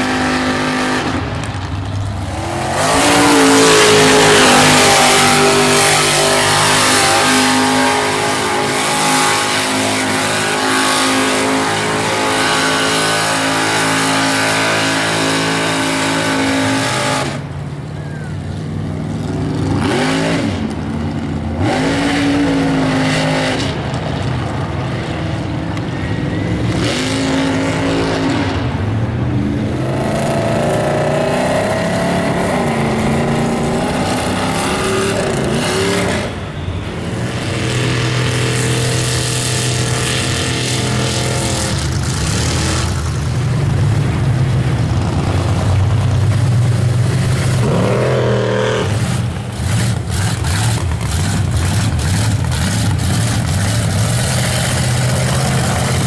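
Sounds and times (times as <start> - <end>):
truck engines revving high: 0.0 - 56.0.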